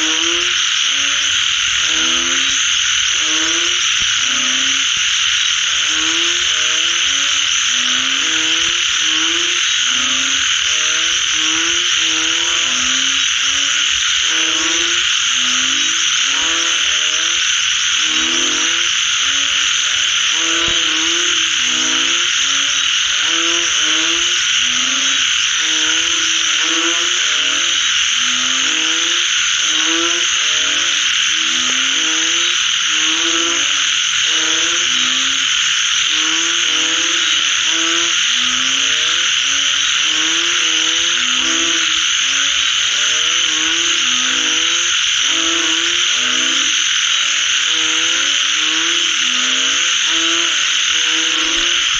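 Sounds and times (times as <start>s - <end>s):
frogs croaking: 0.0s - 51.9s
high-pitched frog chorus: 0.0s - 51.9s.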